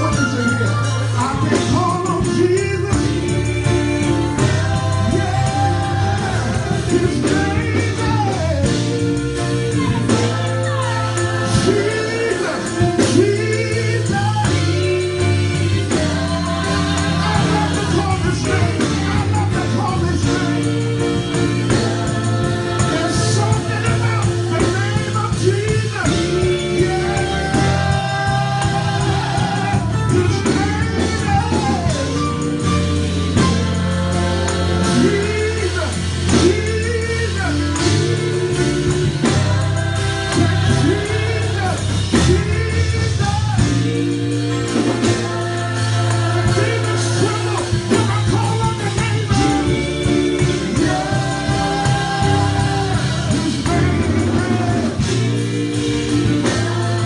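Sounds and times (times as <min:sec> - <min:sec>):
bass line: 0:00.0 - 0:57.0
drum kit: 0:00.0 - 0:57.0
gospel singers: 0:00.0 - 0:57.0.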